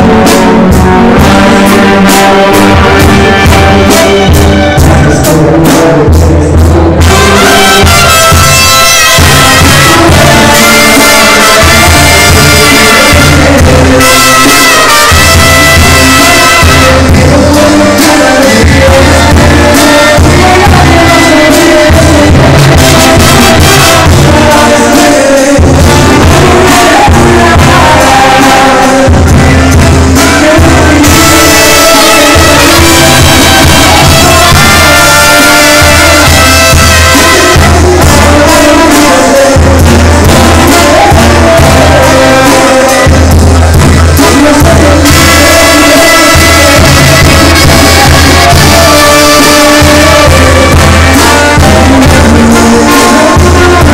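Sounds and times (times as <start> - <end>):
drums playing: 0.0 - 53.9
person singing into a microphone: 0.0 - 53.9
sousaphone: 0.0 - 53.9
trumpets: 0.0 - 53.9.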